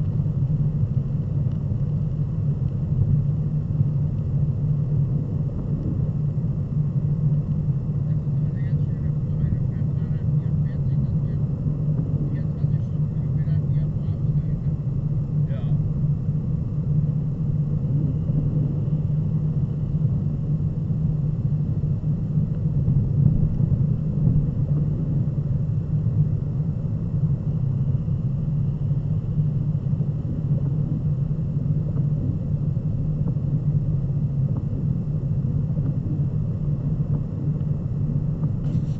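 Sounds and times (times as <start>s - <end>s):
car engine drone in cabin: 0.0s - 38.9s.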